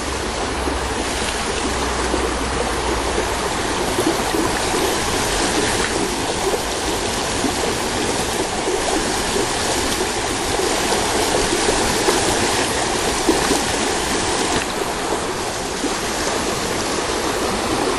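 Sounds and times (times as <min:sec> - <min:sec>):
river water rushing over rocks: 0:00.0 - 0:17.9.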